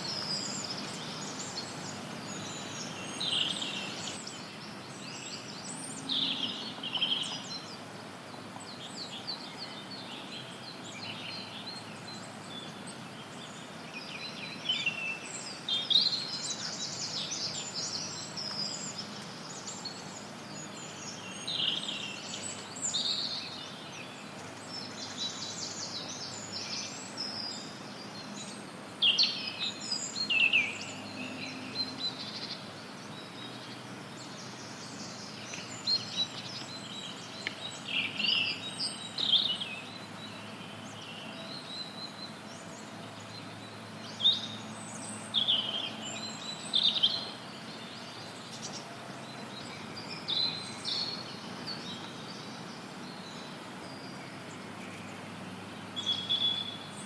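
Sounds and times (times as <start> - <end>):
songbirds chirping and singing: 0.0 - 57.0
white noise hiss: 0.0 - 57.0.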